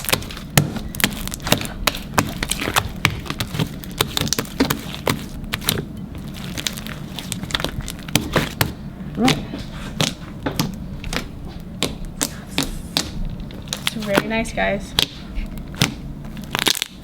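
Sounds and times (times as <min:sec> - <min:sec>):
slime squished by hand: 0:00.0 - 0:14.2, 0:14.9 - 0:17.0.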